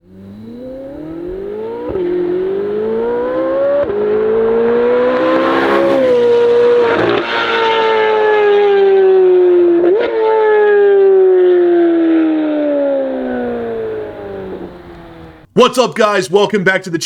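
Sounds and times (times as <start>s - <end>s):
car engine revving hard: 0.0s - 11.0s, 11.8s - 15.5s.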